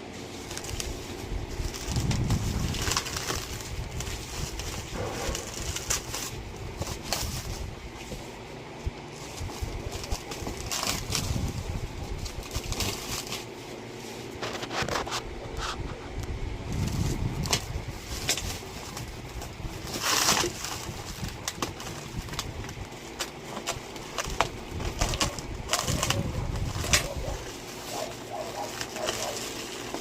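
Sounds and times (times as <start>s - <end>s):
packaging rustling and crinkling: 0.0s - 30.0s.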